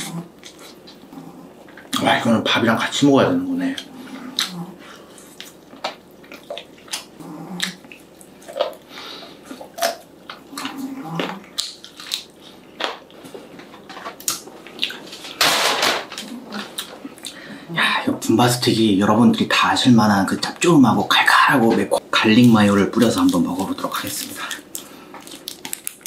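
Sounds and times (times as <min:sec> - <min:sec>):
close-miked chewing: 0:00.0 - 0:02.1, 0:03.6 - 0:15.4, 0:16.1 - 0:17.8, 0:20.4 - 0:26.0.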